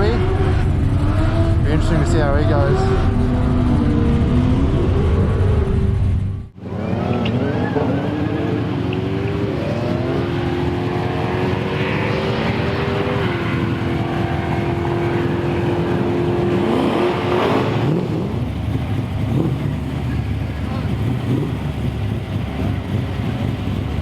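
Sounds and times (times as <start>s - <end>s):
car engine at high revs: 0.0s - 24.0s
cars revving: 0.0s - 24.0s.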